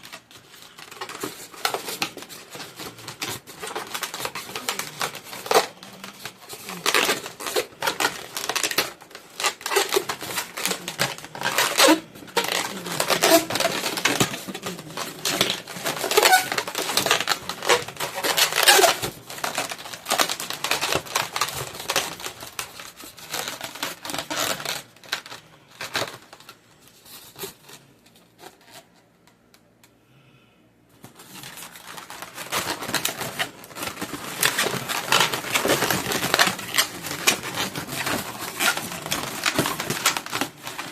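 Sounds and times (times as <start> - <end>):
balloons squeaking and rubbing: 0.0 - 26.1, 31.2 - 40.9.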